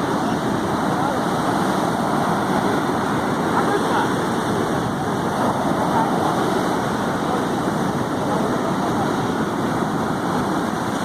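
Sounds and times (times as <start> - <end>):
sea surf rushing: 0.0 - 11.0.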